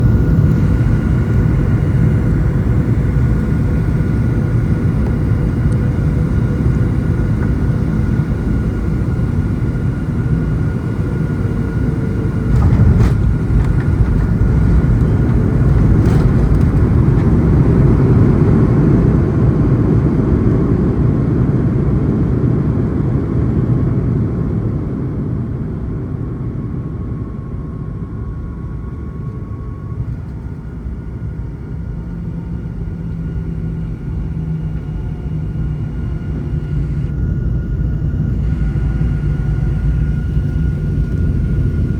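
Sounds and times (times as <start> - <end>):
jet engines rumbling with whine: 0.0 - 41.9.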